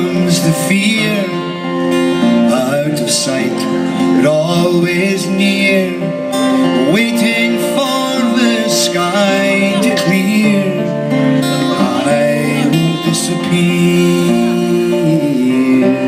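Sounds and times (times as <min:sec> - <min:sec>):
person singing: 0:00.0 - 0:16.0
strummed acoustic guitar: 0:00.0 - 0:16.0.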